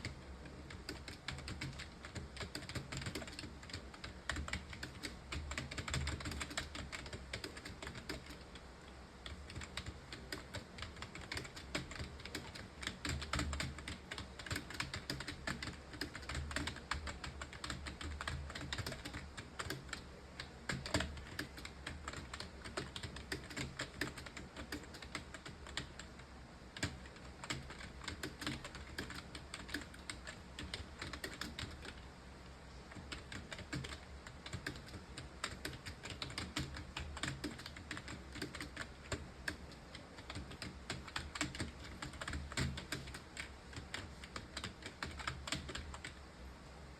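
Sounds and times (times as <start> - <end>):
typing on computer keyboard: 0.0 - 8.6, 9.2 - 26.2, 26.8 - 32.0, 32.9 - 46.2.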